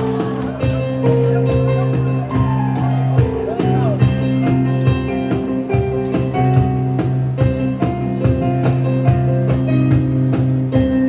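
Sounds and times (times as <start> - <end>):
drum kit beat: 0.0 - 11.0
guitar: 0.0 - 11.0
live band playing instrumental: 0.0 - 11.0.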